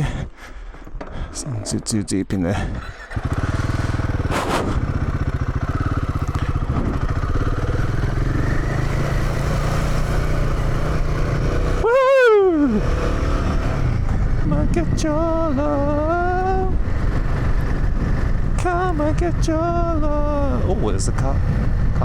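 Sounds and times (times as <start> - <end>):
motorcycle engine running: 2.7 - 22.0.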